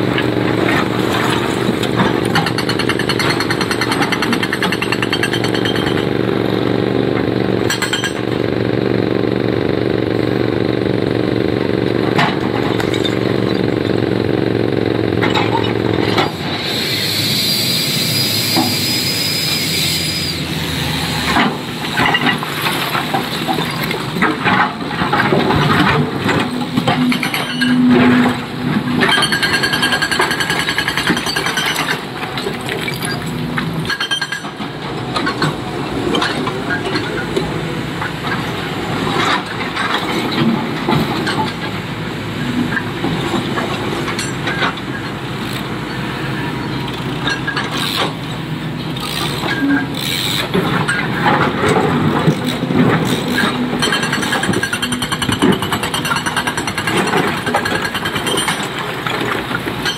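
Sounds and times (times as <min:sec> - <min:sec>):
excavator engine running: 0:00.0 - 0:59.9.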